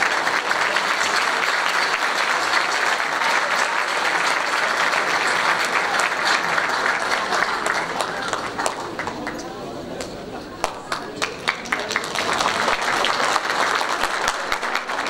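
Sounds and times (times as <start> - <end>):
audience applause: 0.0 - 15.0.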